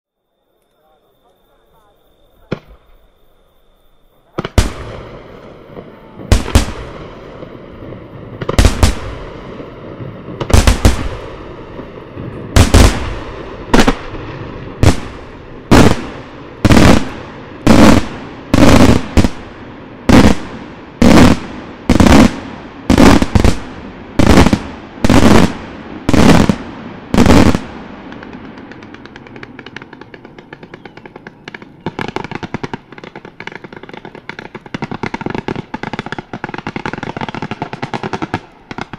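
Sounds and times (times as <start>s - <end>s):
crackle of small fireworks: 4.2s - 38.9s.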